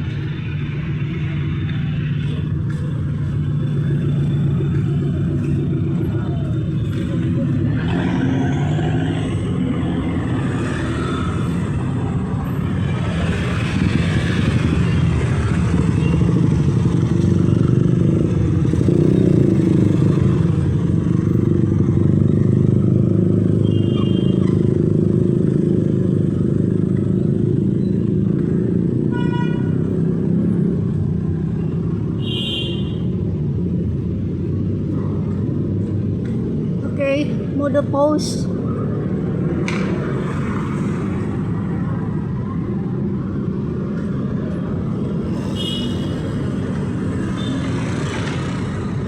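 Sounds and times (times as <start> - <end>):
motorcycles and cars passing: 0.0 - 49.0.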